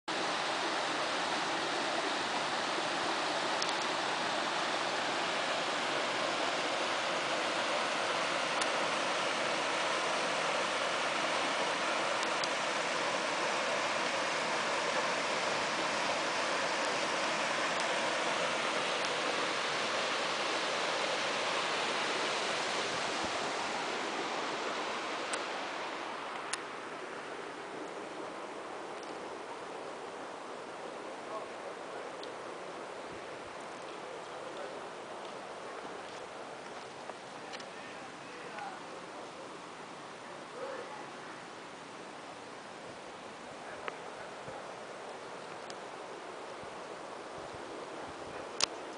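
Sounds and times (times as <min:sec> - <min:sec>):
stream rushing over rocks: 0:00.1 - 0:48.9.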